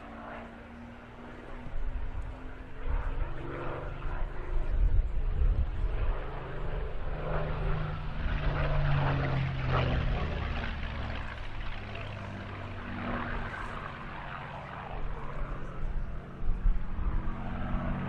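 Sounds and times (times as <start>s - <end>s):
propeller plane flying past: 0.0s - 18.0s.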